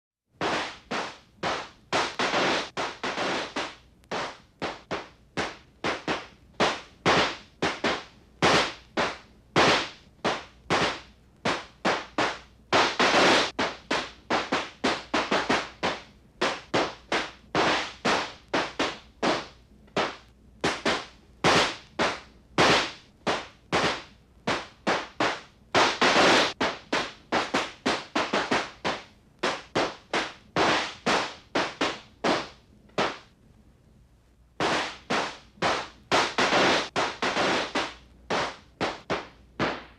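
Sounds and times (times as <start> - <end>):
firecrackers banging: 0.4 - 33.4, 34.6 - 39.9.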